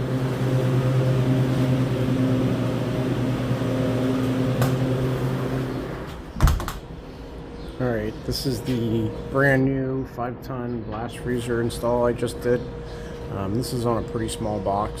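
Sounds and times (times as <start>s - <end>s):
compressor humming: 0.0s - 15.0s
fan air rushing: 0.0s - 15.0s.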